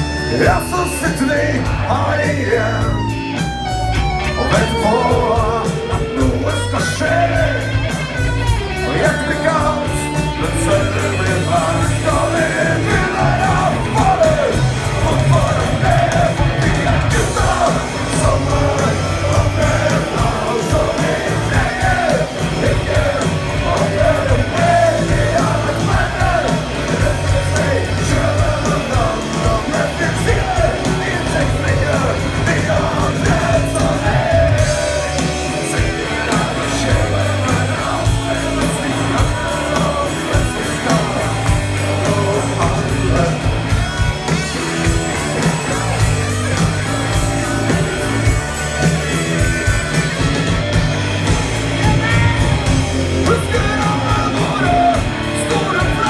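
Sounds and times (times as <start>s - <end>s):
lead vocalist singing and shouting: 0.0s - 56.0s
live rock band playing: 0.0s - 56.0s.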